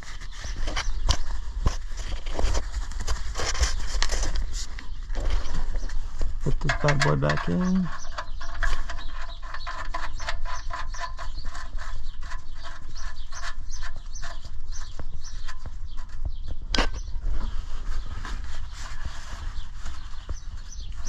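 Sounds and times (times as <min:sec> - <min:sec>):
small metallic clicks and scrapes: 0:00.0 - 0:17.1.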